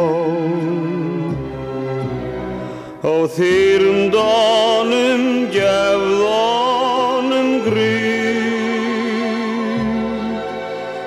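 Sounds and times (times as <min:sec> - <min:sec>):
person singing with wide vibrato: 0:00.0 - 0:01.6, 0:02.6 - 0:11.0
sustained instrumental accompaniment: 0:00.0 - 0:11.0.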